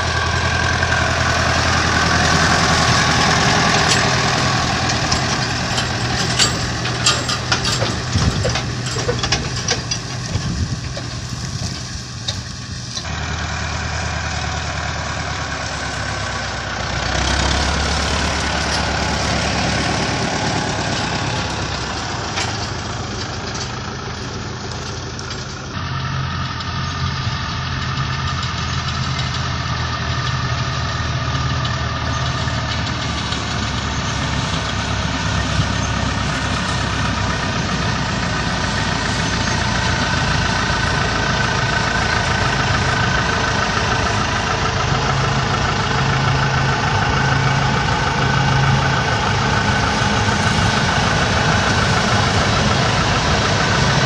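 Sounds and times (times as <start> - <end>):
farm machinery running: 0.0 - 54.0
tractor diesel engine idling: 0.0 - 54.0.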